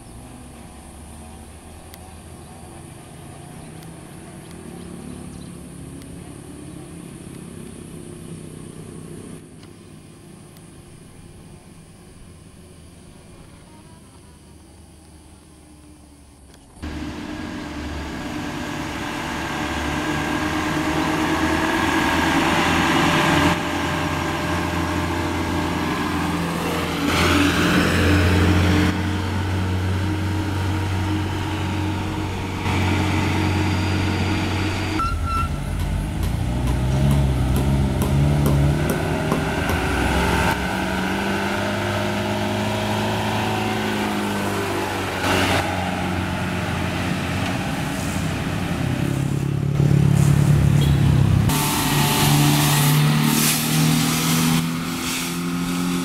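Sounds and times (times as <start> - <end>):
heavy engines labouring uphill: 0.0 - 56.0.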